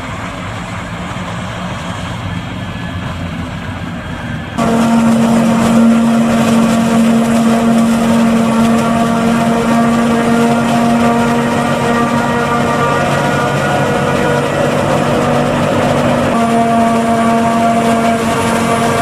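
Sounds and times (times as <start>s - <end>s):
tractor engine: 0.0s - 19.0s.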